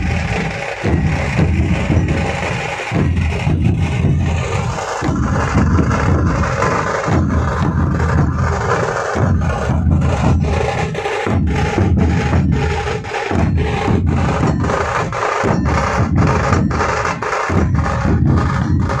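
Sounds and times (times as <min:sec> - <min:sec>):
dhol drums beaten fast: 0:00.0 - 0:19.0
tasha drums rattling: 0:00.0 - 0:19.0.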